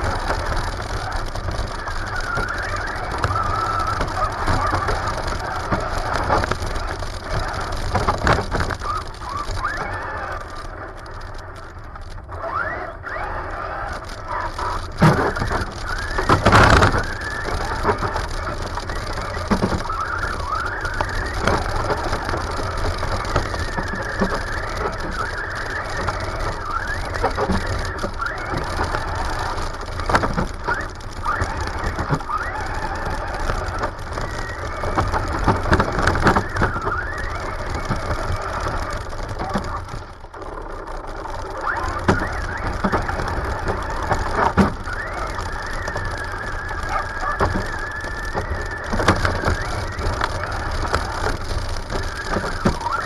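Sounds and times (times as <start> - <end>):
toy truck electric motor whining: 0.0 - 53.0
wheels rumbling over pavement: 0.0 - 53.0.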